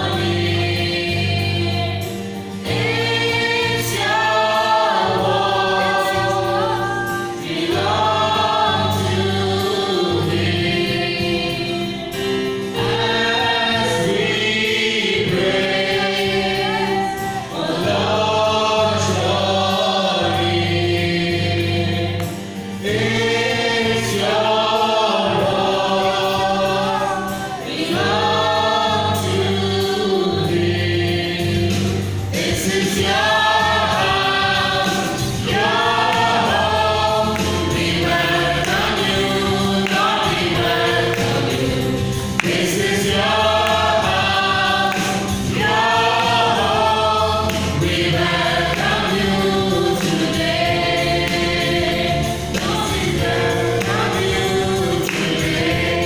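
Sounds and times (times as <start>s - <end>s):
group singing in harmony: 0.0s - 56.0s.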